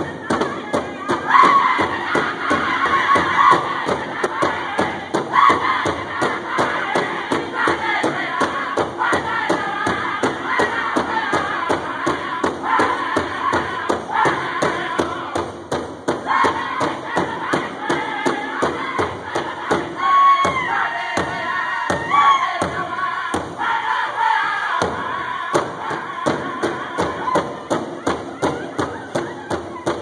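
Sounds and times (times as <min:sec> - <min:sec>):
drum group singing: 0:00.0 - 0:30.0
large drum steady beat: 0:00.0 - 0:30.0.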